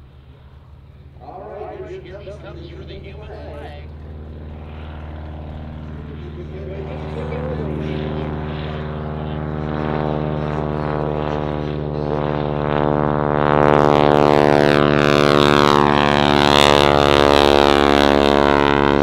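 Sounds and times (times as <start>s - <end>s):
biplane radial engine and propeller: 0.0s - 19.0s.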